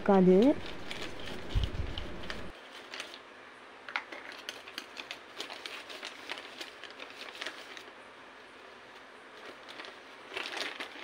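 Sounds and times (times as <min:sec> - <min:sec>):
plastic packaging crinkling: 0:00.4 - 0:03.2, 0:04.0 - 0:08.0, 0:08.8 - 0:11.0.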